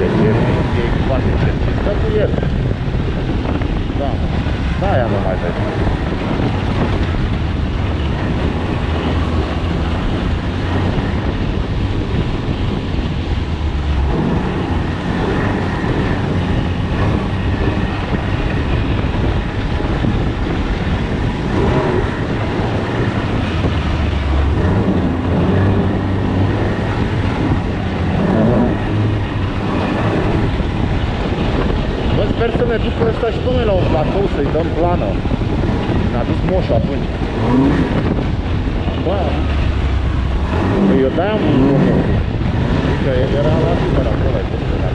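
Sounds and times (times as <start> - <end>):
snowmobile engine droning: 0.0 - 44.9
wind noise on microphone: 0.0 - 44.9.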